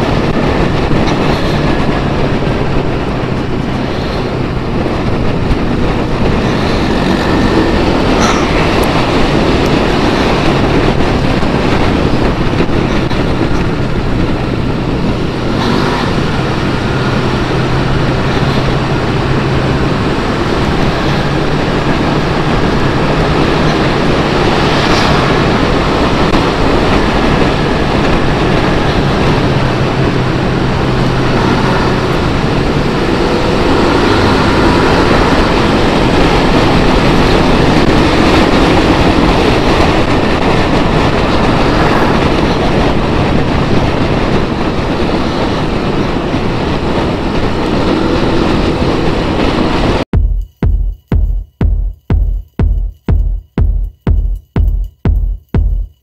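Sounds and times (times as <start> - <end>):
motorcycle engine hum: 0.0 - 56.0
wind noise on microphone: 0.0 - 56.0.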